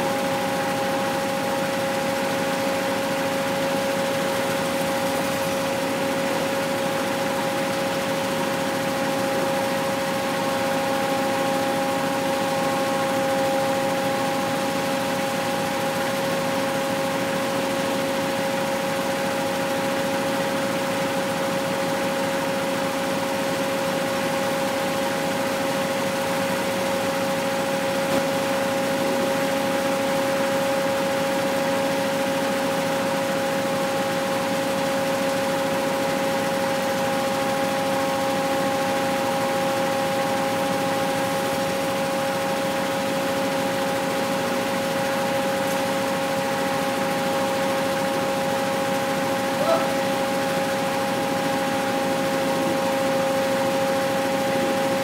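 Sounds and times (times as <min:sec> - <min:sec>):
decorticating machine humming: 0:00.0 - 0:55.0
small engine running: 0:00.0 - 0:55.0.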